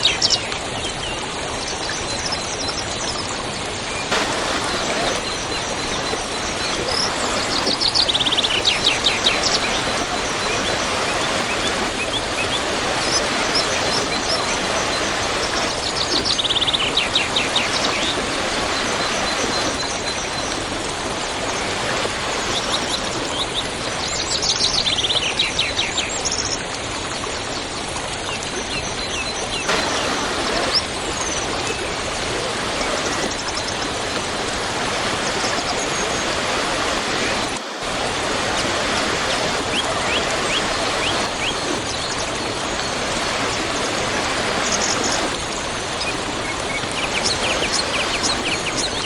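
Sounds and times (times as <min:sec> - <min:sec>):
waterfall rushing: 0:00.0 - 0:24.7, 0:29.0 - 0:49.0.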